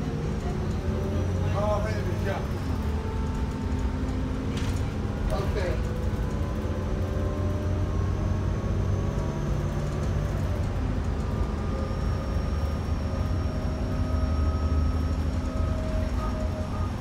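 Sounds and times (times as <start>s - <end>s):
bus engine drone: 0.0s - 17.0s
engine whine: 0.0s - 17.0s.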